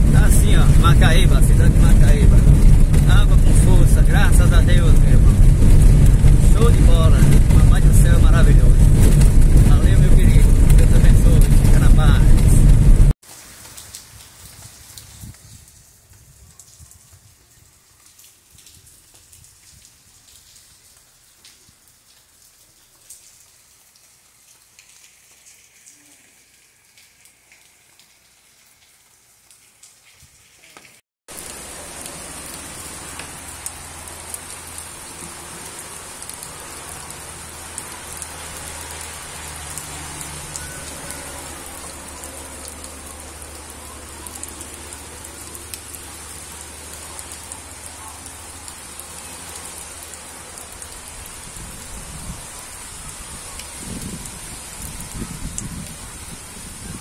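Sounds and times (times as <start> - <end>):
heavy rain on plant leaves: 0.0 - 57.0.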